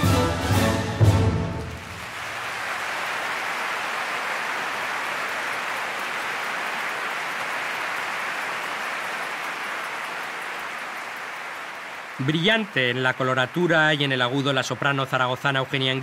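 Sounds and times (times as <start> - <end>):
audience applauding: 1.0 - 16.0.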